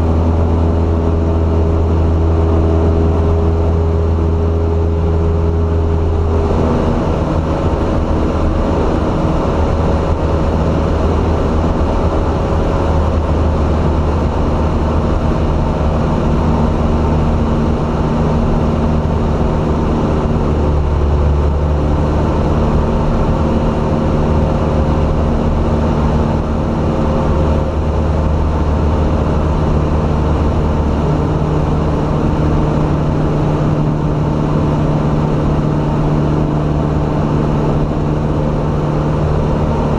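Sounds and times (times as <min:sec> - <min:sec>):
light plane engine and propeller: 0:00.0 - 0:39.9.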